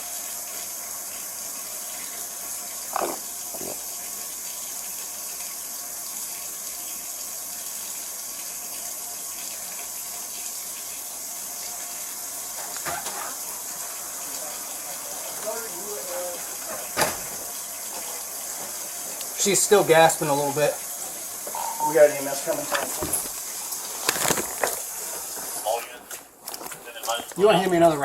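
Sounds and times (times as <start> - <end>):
running water hiss: 0.0 - 28.0.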